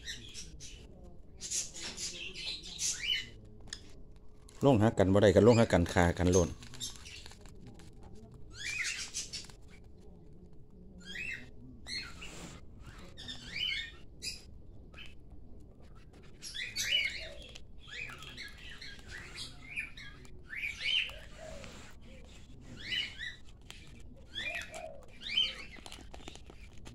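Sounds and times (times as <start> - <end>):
birds chirping and squawking: 0.0 - 7.4, 8.5 - 10.1, 10.9 - 26.9.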